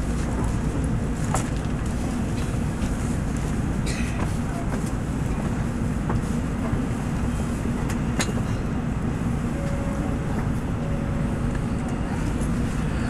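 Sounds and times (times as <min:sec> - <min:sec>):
train cabin rumble: 0:00.0 - 0:13.0.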